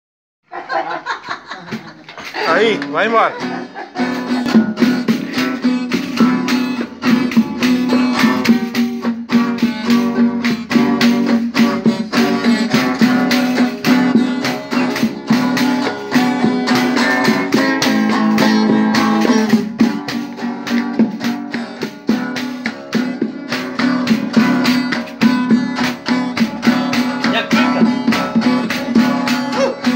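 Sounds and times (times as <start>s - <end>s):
acoustic guitar strummed: 2.4s - 29.9s.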